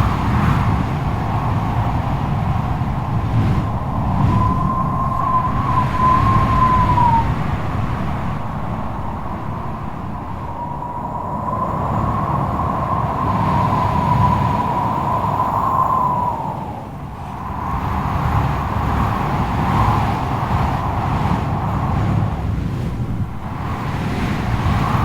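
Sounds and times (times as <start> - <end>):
strong gusty wind howling: 0.0 - 25.0.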